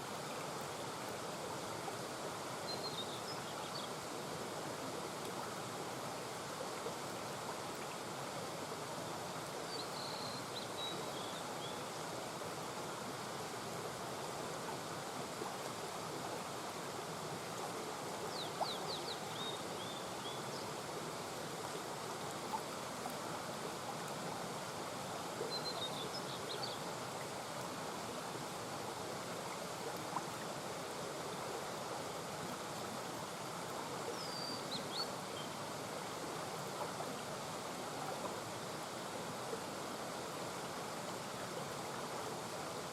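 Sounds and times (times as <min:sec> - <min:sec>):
brook babbling over stones: 0:00.0 - 0:42.9.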